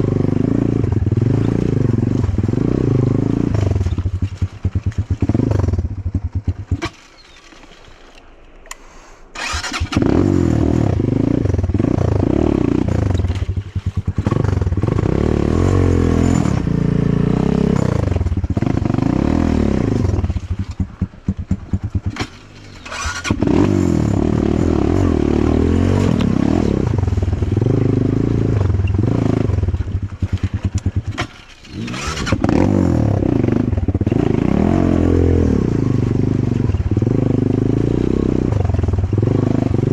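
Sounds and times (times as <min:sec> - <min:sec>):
motorcycle engine revving: 0:00.0 - 0:07.4, 0:09.4 - 0:39.9.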